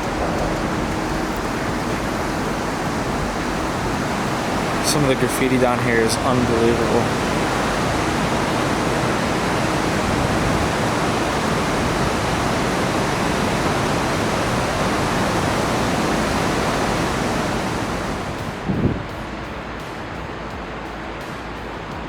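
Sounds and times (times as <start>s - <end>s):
running water rushing: 0.0s - 21.9s.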